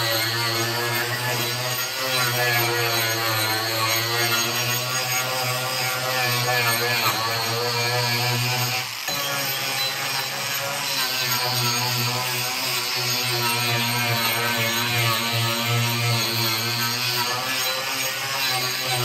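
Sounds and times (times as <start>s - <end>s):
angle grinder carving wood: 0.0s - 19.0s.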